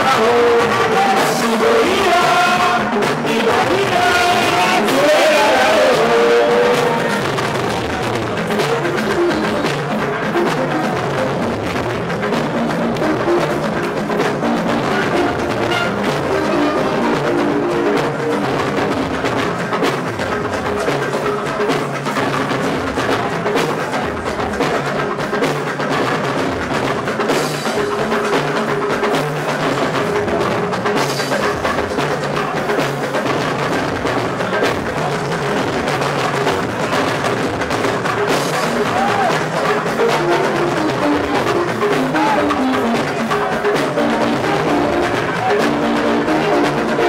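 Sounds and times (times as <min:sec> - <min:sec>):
busy drums and hand percussion: 0:00.0 - 0:47.0.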